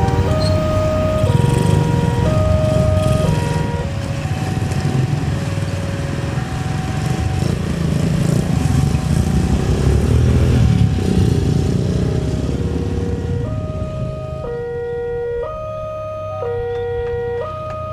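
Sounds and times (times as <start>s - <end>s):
level crossing warning alarm: 0.0s - 11.4s, 12.8s - 17.9s
motorcycle engines idling: 0.0s - 14.7s.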